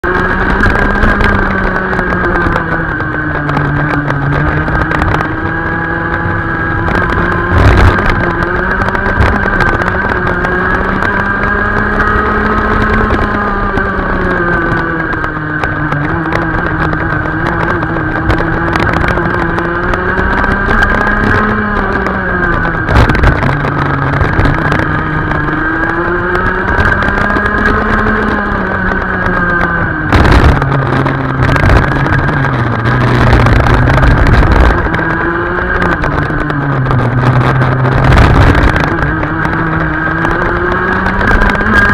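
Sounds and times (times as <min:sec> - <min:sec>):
racing kart engine revving: 0:00.0 - 0:41.9.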